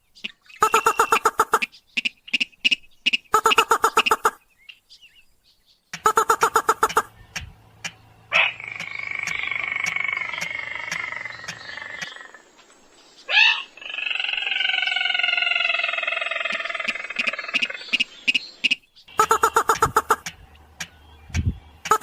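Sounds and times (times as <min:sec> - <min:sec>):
crake calls: 0:00.2 - 0:04.4, 0:05.9 - 0:22.0.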